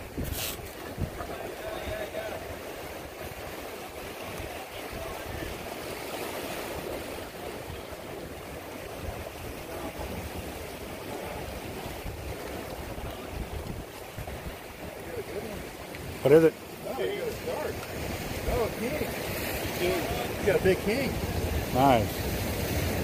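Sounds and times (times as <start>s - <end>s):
wind buffeting microphone: 0.0s - 5.7s, 6.4s - 16.2s, 16.8s - 23.0s
surf washing against rocks: 0.0s - 23.0s.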